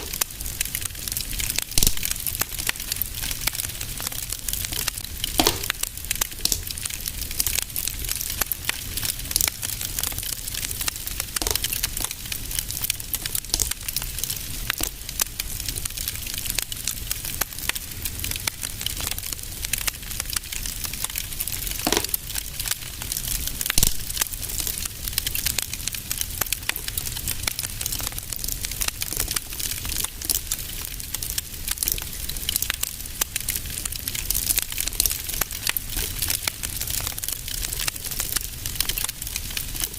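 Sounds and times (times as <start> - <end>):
low steady fire rumble: 0.0 - 39.9
wood fire crackling and popping: 0.0 - 39.9.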